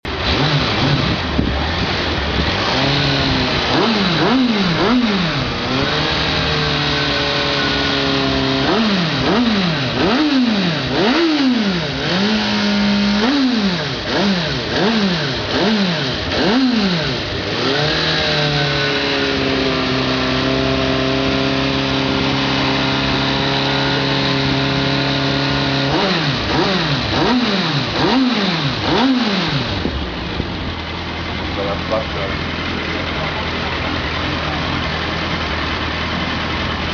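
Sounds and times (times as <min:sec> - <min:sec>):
motorcycle engine idling: 0:00.0 - 0:36.9
motorcycle engine revving: 0:00.0 - 0:36.9.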